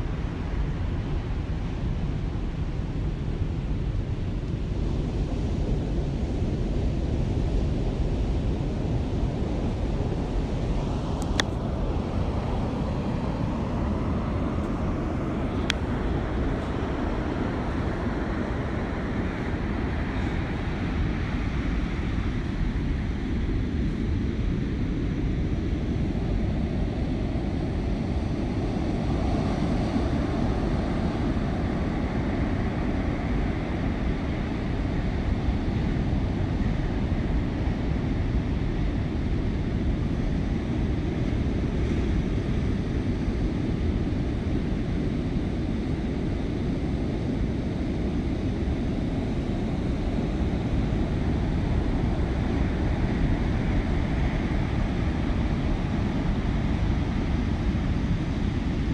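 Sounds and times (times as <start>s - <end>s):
wind rumbling on microphone: 0.0s - 58.9s.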